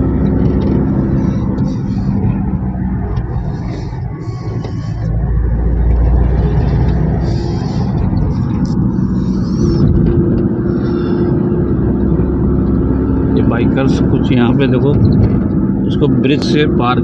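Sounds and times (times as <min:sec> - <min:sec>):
engine and tyre rumble: 0:00.0 - 0:17.0
steady hum: 0:00.0 - 0:17.0.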